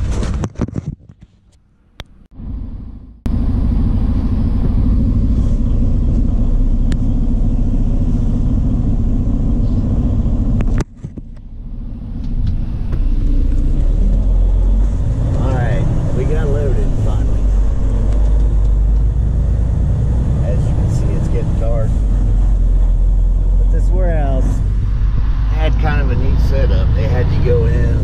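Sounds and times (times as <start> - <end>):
truck diesel engine droning: 2.3 - 10.8, 11.4 - 28.0.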